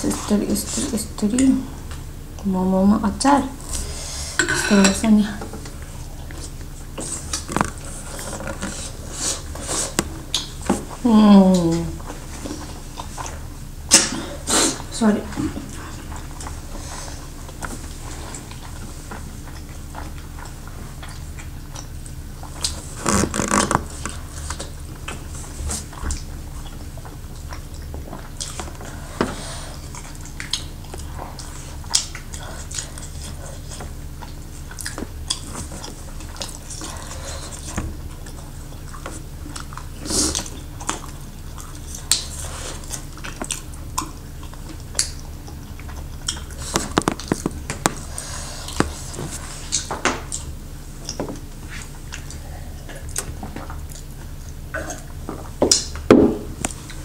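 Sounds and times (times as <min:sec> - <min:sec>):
person chewing food: 0:05.5 - 0:11.0, 0:11.6 - 0:57.0.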